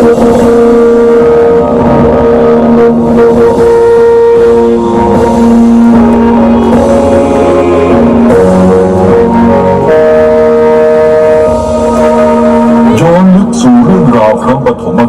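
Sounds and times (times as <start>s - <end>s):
loud soundtrack music with held chords: 0.0s - 15.0s.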